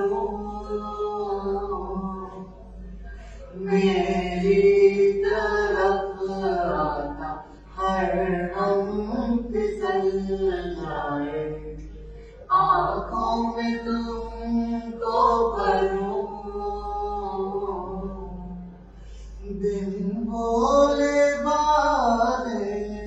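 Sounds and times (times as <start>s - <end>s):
man and woman singing together: 0.0s - 18.8s, 19.4s - 23.0s.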